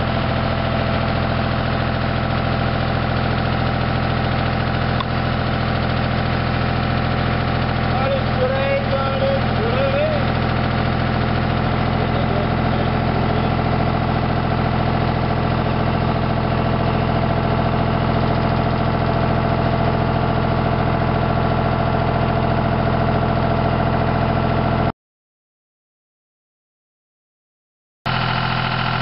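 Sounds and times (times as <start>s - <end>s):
tractor engine running: 0.0s - 24.9s, 28.1s - 29.0s.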